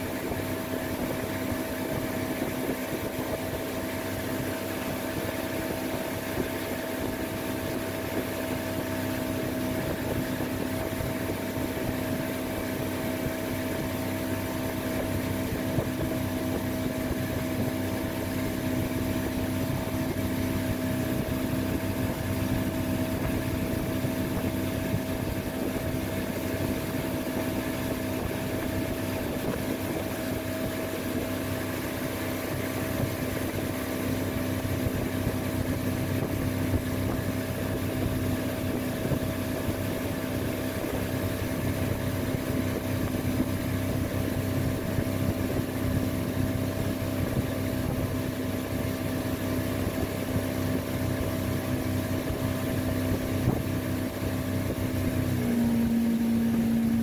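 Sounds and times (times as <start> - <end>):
motorboat engine droning: 0.0 - 57.0
wind and water noise: 0.0 - 57.0.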